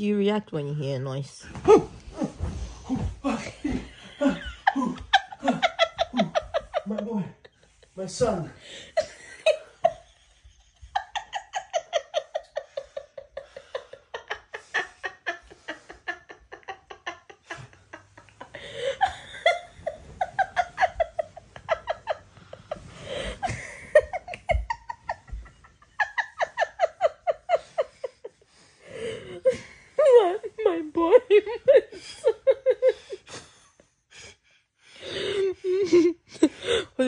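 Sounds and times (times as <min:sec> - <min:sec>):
hearty laughter: 0:02.2 - 0:37.0.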